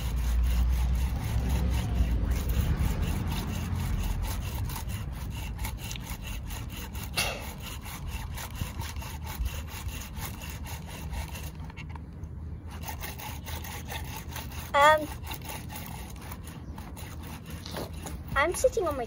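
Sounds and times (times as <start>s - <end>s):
bow drill rubbing wood: 0.0s - 19.0s.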